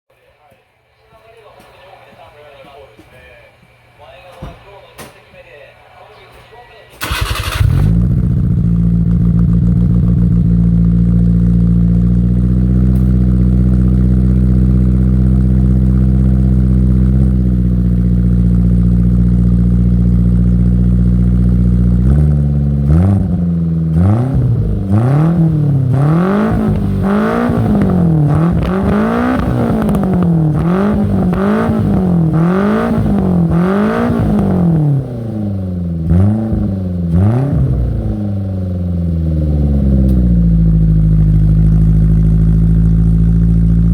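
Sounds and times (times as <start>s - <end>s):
car engine idling and revving: 7.0s - 43.9s.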